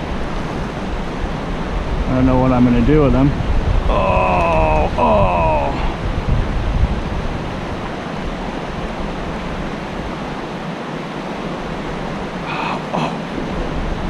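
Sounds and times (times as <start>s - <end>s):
creek current rushing: 0.0s - 14.0s.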